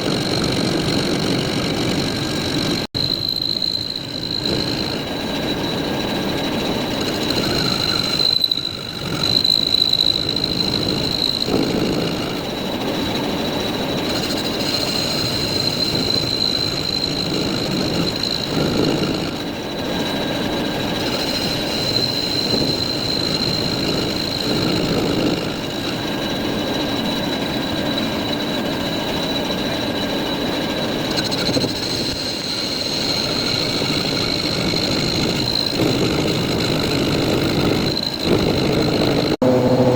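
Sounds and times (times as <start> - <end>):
high machine whine: 0.0 - 39.9
metal lathe cutting steel: 0.0 - 39.9.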